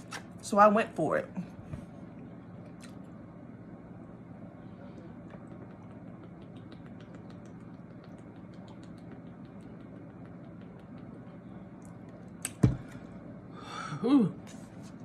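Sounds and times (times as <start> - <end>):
low hum: 1.3 - 15.0.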